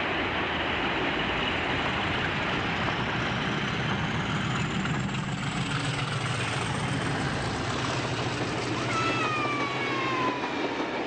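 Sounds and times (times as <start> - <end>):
diesel locomotive engine passing: 0.0 - 11.0.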